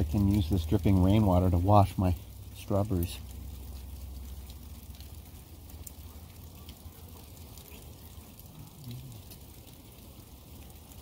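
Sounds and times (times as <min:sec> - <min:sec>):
drops dripping close by: 0:00.0 - 0:11.0
steady rain falling: 0:00.0 - 0:11.0.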